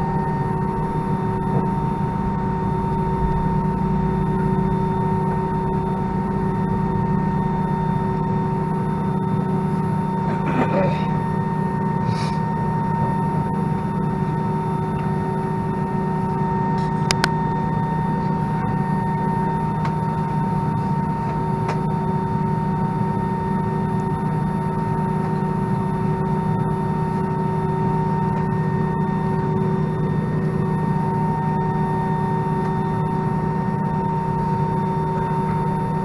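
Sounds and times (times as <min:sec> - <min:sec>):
aircraft cabin hum: 0:00.0 - 0:36.0
idling engines whine: 0:00.0 - 0:36.0.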